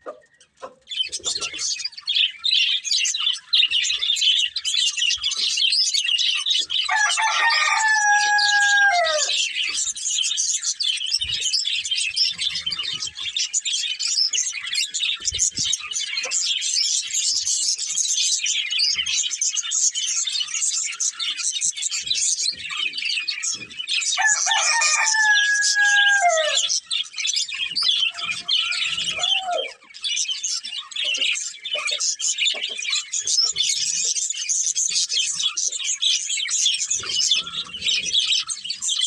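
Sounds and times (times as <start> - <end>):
budgerigars chattering: 0.0 - 39.0.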